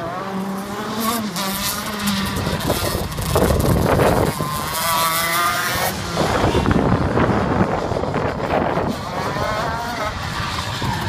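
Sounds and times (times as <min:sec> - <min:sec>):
go-kart engine passing: 0:00.0 - 0:11.0.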